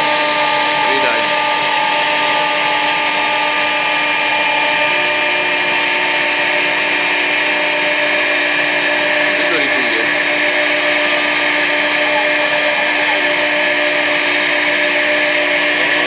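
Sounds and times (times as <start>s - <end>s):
bit cutting board: 0.0s - 16.0s
lower machine tone: 0.0s - 16.0s
router spindle high whine: 0.0s - 16.0s.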